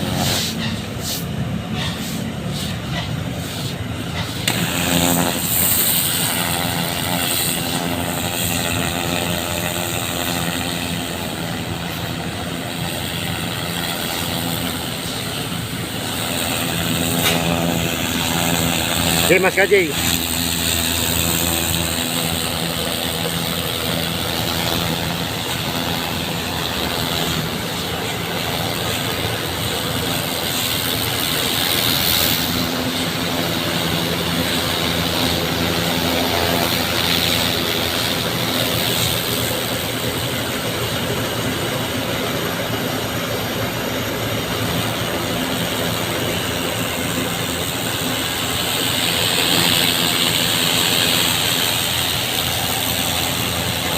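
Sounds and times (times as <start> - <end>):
water jetting from a hose: 0.0 - 41.1, 44.2 - 53.9
engine running steadily: 0.0 - 53.9.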